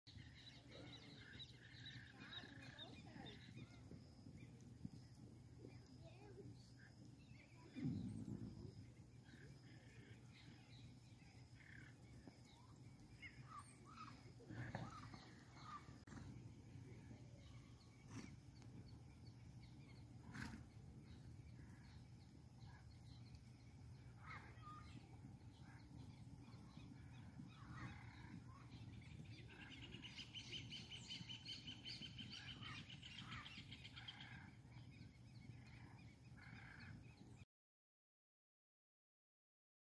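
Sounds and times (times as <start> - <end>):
low steady hum: 0.1 - 37.4
scattered bird calls: 0.1 - 37.4.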